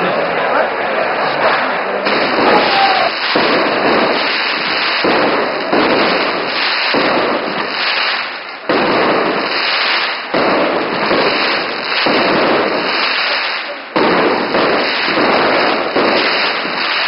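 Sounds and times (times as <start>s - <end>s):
firecrackers barrage: 0.9s - 17.0s.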